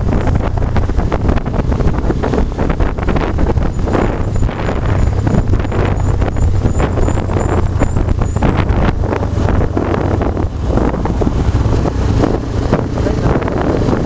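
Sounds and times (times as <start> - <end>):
vehicle engine and road noise: 0.0 - 14.0
wind rumble on microphone: 0.0 - 14.0.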